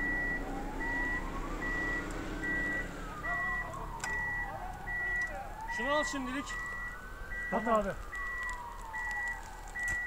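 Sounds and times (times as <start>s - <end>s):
electronic warning beeps: 0.0s - 10.0s.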